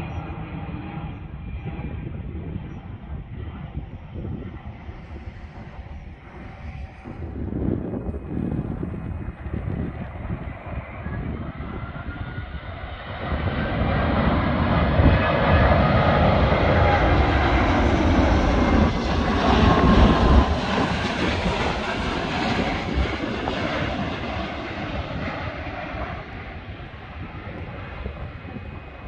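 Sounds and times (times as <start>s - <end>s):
jet engines passing overhead: 0.0s - 29.0s.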